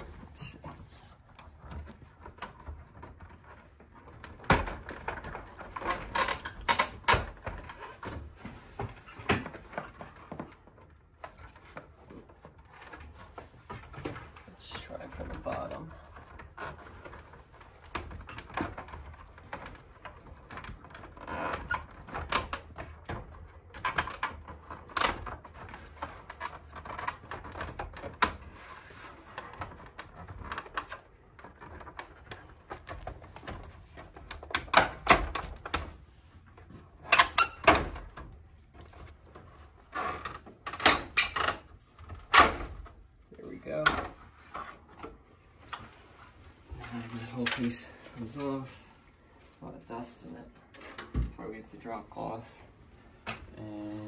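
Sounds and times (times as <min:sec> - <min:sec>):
plastic panel clicking and creaking: 0:00.0 - 0:45.9.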